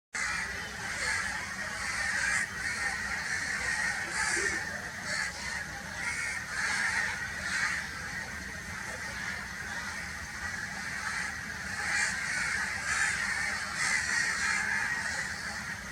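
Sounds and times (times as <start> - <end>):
crows cawing: 0.2 - 15.9.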